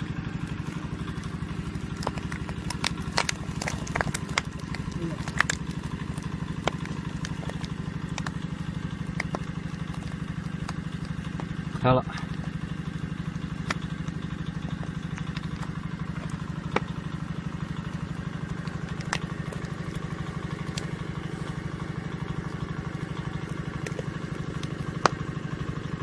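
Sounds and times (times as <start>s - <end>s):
engine running with fast pulse: 0.0s - 26.0s.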